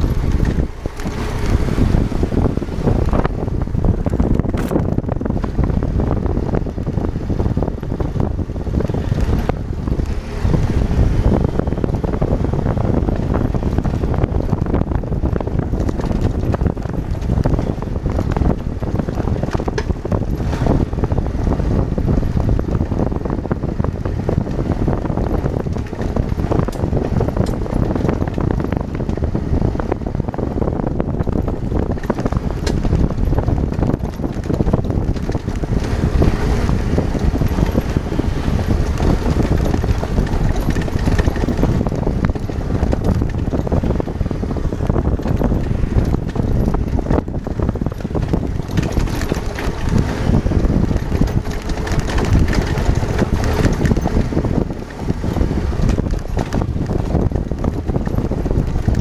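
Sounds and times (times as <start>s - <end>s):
motorcycle engine: 0.0s - 59.0s
wind on microphone: 0.0s - 59.0s.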